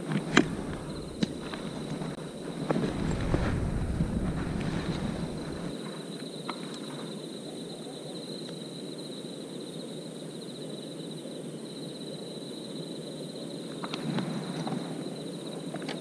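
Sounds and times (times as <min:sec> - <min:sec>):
insects trilling: 0:00.0 - 0:16.0
low steady hiss: 0:00.0 - 0:16.0.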